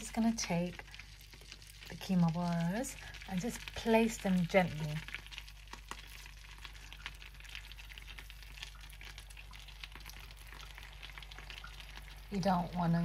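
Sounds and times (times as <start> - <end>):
butter sizzling in a frying pan: 0.0 - 13.0
small pops of frying: 0.0 - 13.0.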